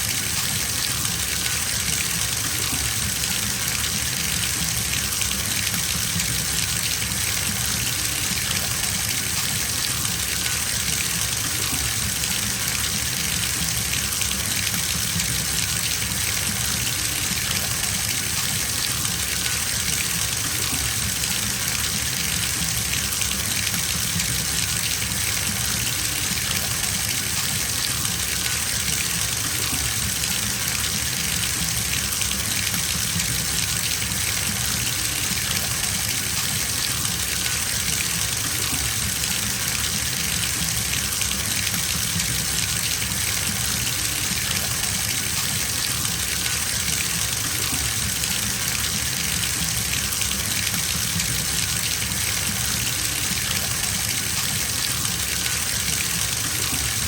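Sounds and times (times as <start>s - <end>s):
water pouring into bathtub: 0.0s - 57.0s.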